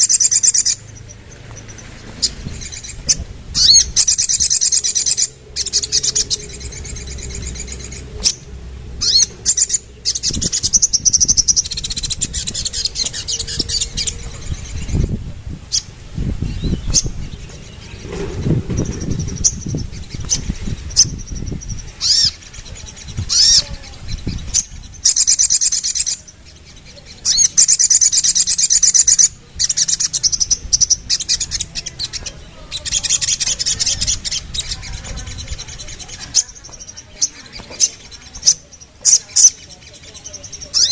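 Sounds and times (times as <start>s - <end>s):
bird trilling song: 0.0s - 40.9s.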